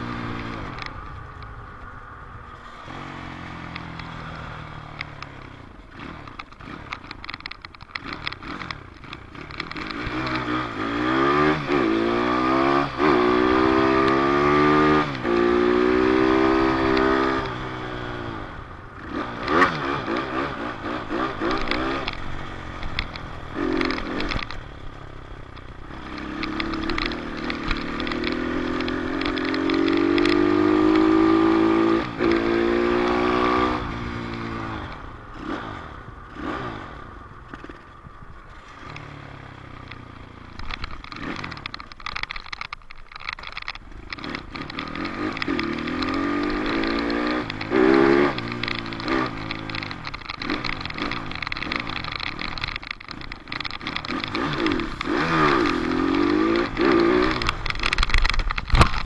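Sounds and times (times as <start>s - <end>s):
dirt bike engine accelerating: 2.4s - 59.0s.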